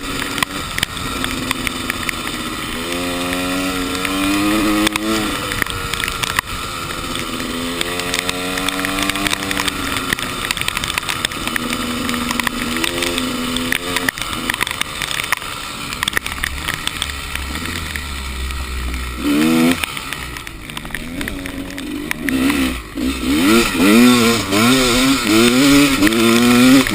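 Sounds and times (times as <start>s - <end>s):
dirt bike engine revving: 0.0s - 26.9s
sharp clicks and rattles: 0.0s - 26.9s.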